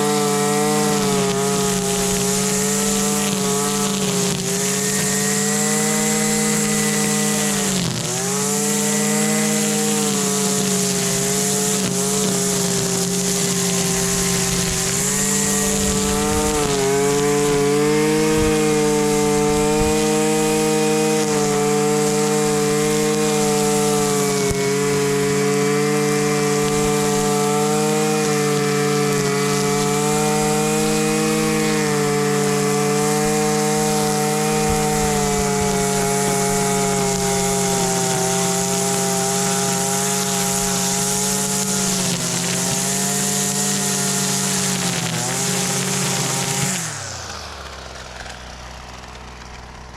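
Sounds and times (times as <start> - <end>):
string trimmer engine running: 0.0 - 49.9.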